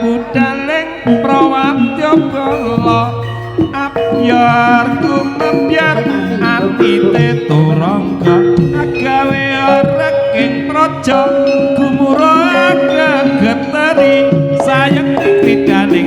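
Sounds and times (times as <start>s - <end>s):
gamelan ensemble music: 0.0s - 16.0s
gong chime tones: 0.0s - 16.0s
hand drum strokes: 0.0s - 16.0s.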